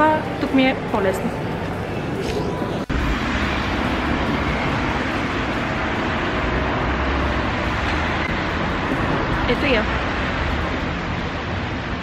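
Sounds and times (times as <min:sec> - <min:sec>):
passing cars rumble and hiss: 0:00.0 - 0:12.0.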